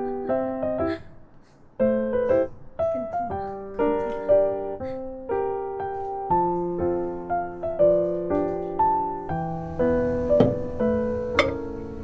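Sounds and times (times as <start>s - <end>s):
piano background music: 0.0s - 12.0s.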